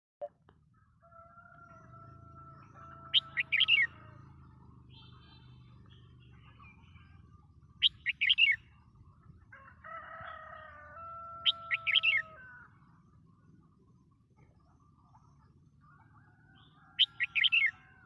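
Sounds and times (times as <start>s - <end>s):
bird chirping song: 0.8s - 9.4s, 11.3s - 18.0s.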